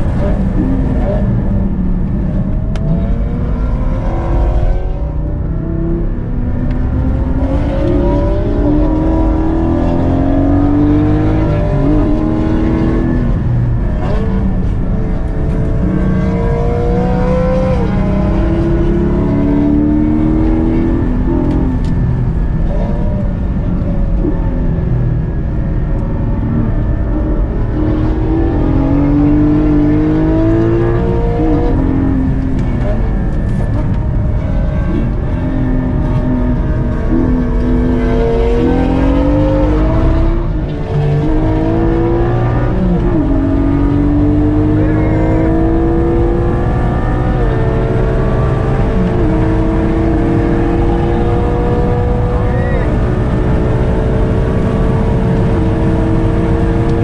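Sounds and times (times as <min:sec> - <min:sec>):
car engine revving in cabin: 0:00.0 - 0:57.0.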